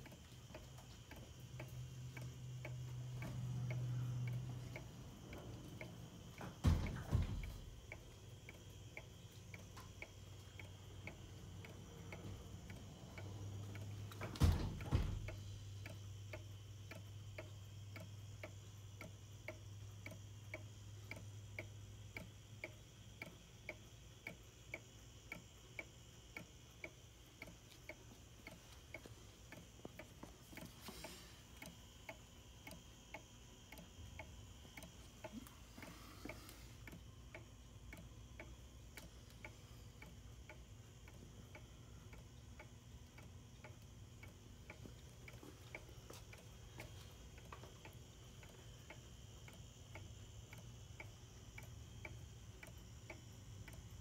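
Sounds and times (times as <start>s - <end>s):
clock ticking faintly: 0.0s - 54.0s.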